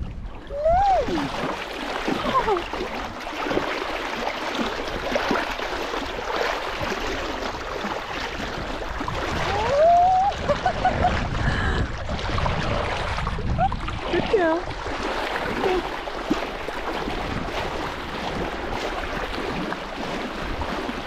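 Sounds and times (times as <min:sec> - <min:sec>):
seawater splashing: 0:00.0 - 0:21.0.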